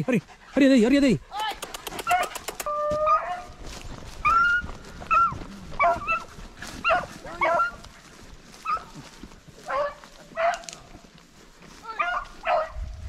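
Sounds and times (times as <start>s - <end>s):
hounds baying and yelping: 0.0s - 12.9s.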